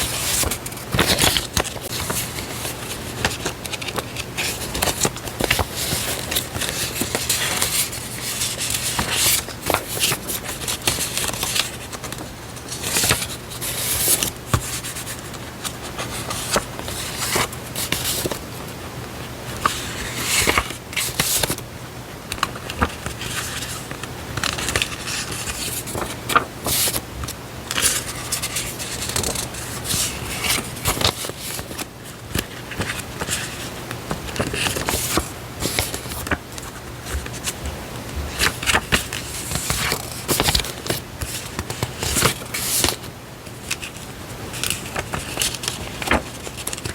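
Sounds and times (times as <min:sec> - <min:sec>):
paper rustling and crinkling: 0:00.0 - 0:46.9.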